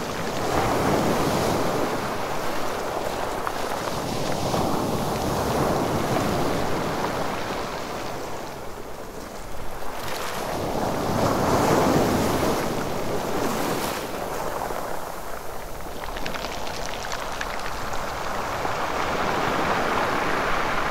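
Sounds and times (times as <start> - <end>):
sea waves washing on rocky beach: 0.0 - 20.9.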